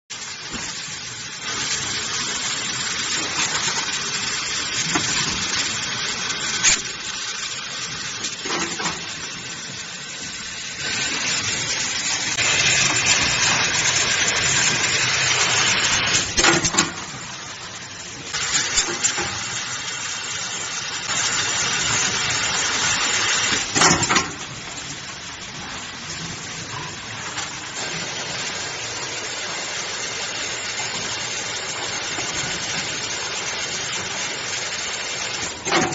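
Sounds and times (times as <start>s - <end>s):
machine hissing: 0.1s - 35.9s.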